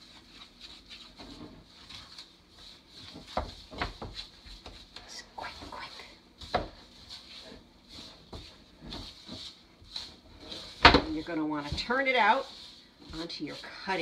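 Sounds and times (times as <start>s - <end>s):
spoon stirring wet dough: 0.0s - 14.0s.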